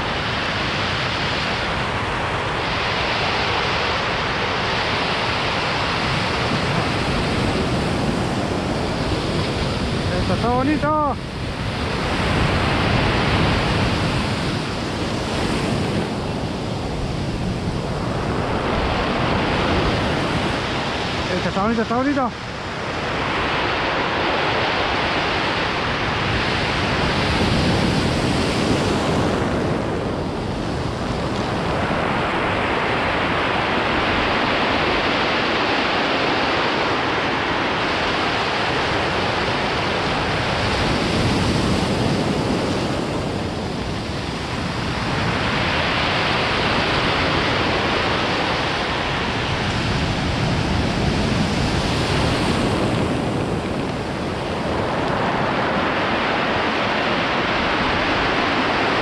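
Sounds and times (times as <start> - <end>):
surf breaking on stony beach: 0.0 - 59.0.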